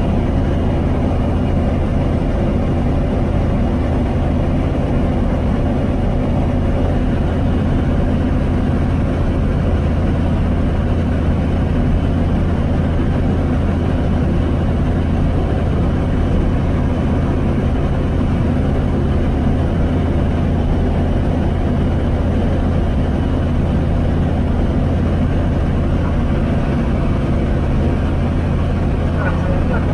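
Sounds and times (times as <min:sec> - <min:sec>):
aircraft engine and propeller droning: 0:00.0 - 0:29.9.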